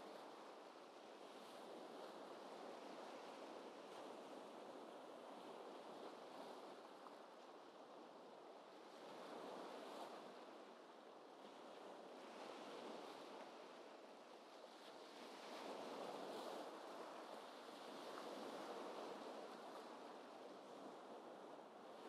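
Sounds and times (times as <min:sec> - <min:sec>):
gentle ocean waves: 0:00.0 - 0:22.0.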